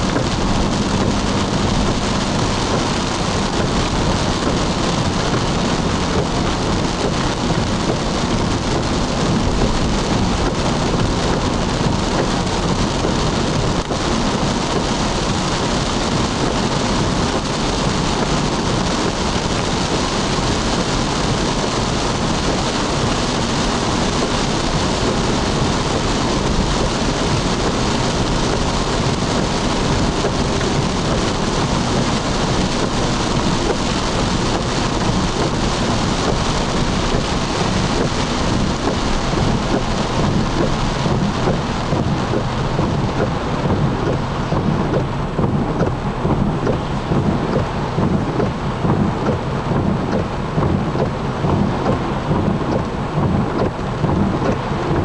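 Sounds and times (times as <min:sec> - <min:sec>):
deep rumble: 0:00.0 - 0:55.0
heavy rain on car roof: 0:00.0 - 0:55.0
tyres on wet road: 0:00.0 - 0:55.0.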